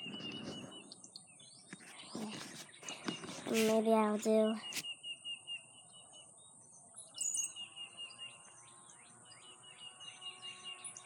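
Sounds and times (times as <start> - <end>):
downward-slurred bird chirps: 0.0 - 11.0.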